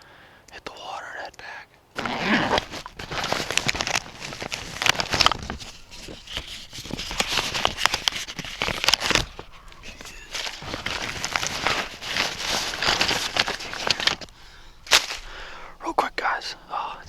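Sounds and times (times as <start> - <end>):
footsteps crunching on forest floor: 2.0 - 16.9.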